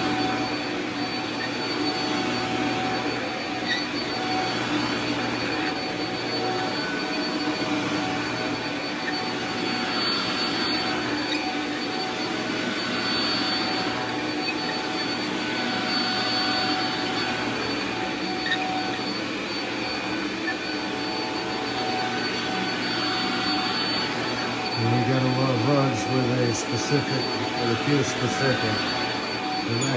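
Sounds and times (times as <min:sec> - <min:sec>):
vacuum cleaner running: 0:00.0 - 0:29.9.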